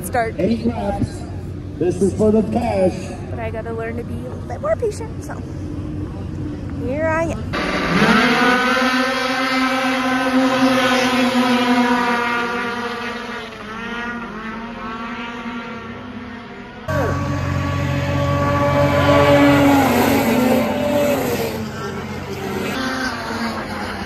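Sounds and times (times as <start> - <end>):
snowmobile engines at high revs: 0.0 - 24.0.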